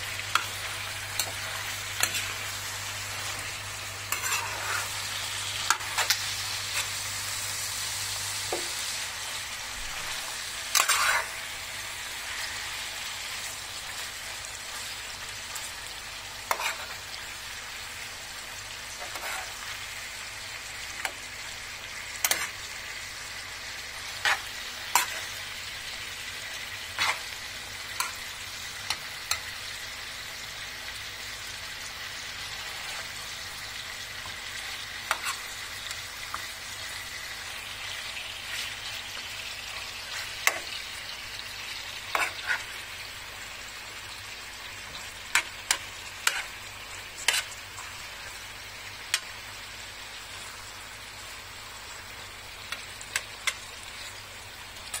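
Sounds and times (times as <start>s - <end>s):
chicken sizzling in pan: 0.0s - 55.0s.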